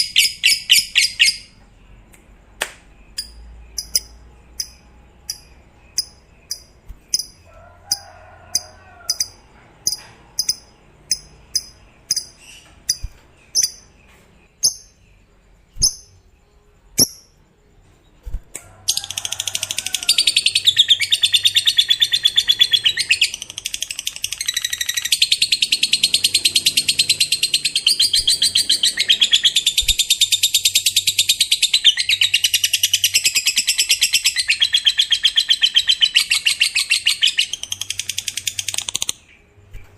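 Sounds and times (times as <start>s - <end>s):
lovebird chirping: 0.0s - 2.1s, 3.0s - 7.5s, 8.5s - 39.9s.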